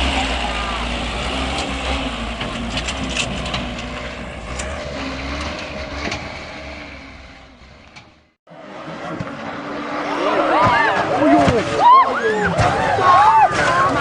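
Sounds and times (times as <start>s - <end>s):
vehicle low rumble: 0.0s - 14.0s.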